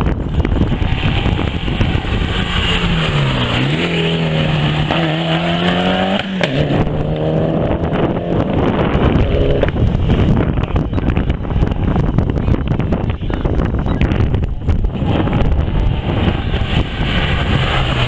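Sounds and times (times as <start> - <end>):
rally car engine under load: 0.0 - 18.0
wind buffeting microphone: 0.0 - 18.0.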